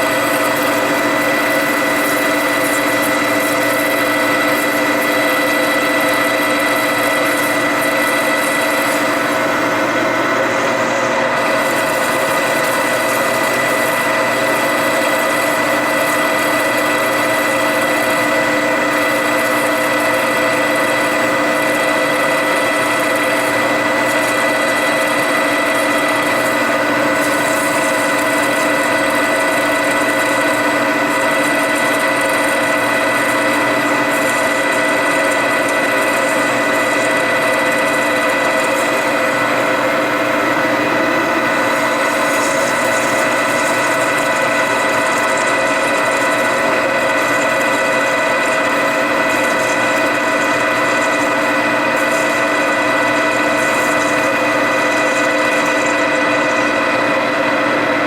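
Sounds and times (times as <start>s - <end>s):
metal lathe whining: 0.0s - 58.0s.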